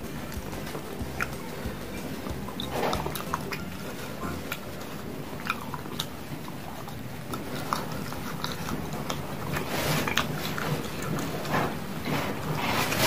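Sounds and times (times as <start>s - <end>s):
chewing and wet mouth smacks: 0.2s - 11.5s.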